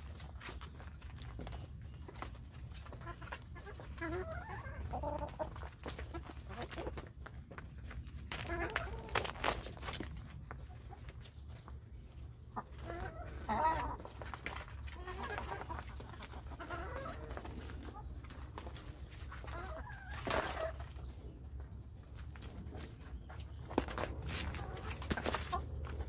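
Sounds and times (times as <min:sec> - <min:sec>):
beaks pecking on plastic tarp: 0:00.0 - 0:21.4, 0:22.1 - 0:26.0
hens clucking: 0:00.0 - 0:26.0.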